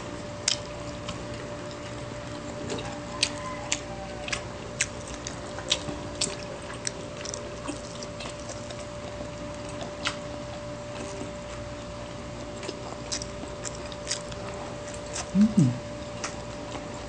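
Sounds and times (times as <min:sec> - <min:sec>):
faint hum: 0:00.0 - 0:17.0
wet chewing and lip-smacks: 0:00.4 - 0:11.6, 0:12.4 - 0:17.0.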